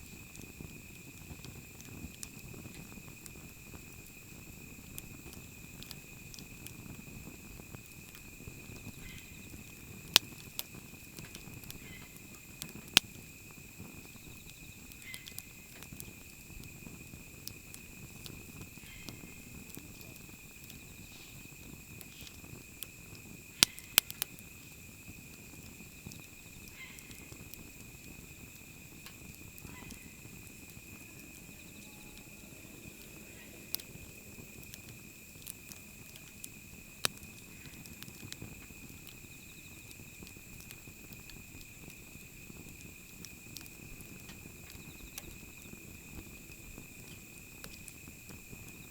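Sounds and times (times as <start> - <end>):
fire pops and cracks: 0.0 - 48.9
wood fire rumbling: 0.0 - 48.9.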